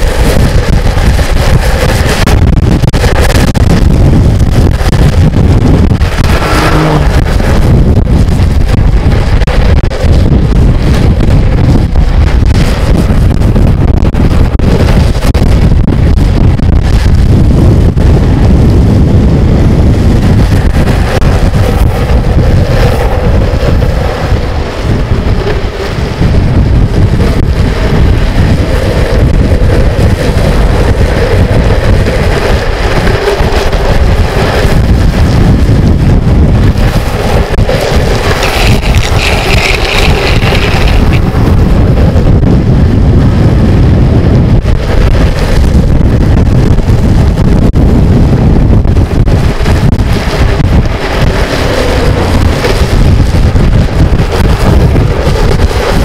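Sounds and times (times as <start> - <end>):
longboard wheels rolling on asphalt: 0.0 - 56.0
wind buffeting microphone: 0.0 - 56.0.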